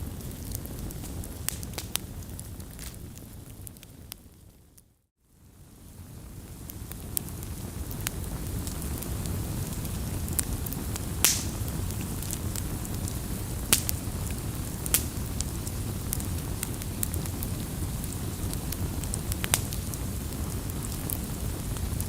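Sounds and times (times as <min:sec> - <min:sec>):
sharp popping of fire: 0:00.0 - 0:04.4, 0:06.1 - 0:22.0
low rumble of flames: 0:00.0 - 0:22.0
wood crackling in fire: 0:00.0 - 0:22.0.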